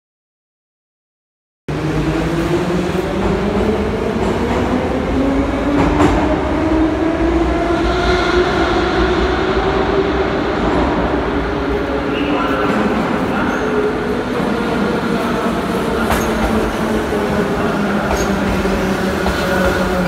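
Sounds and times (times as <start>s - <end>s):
metro train rumble and whine: 1.7s - 20.0s.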